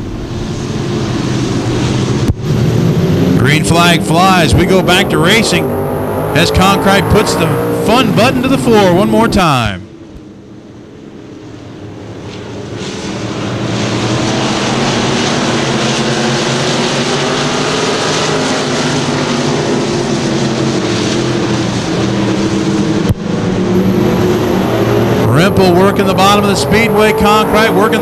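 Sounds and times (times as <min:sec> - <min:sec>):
race car engines at full throttle: 0:00.0 - 0:28.0.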